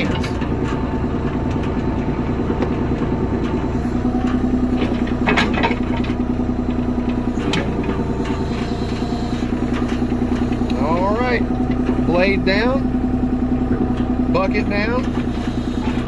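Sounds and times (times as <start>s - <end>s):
excavator diesel engine running: 0.0s - 16.0s
hydraulics working: 0.0s - 16.0s.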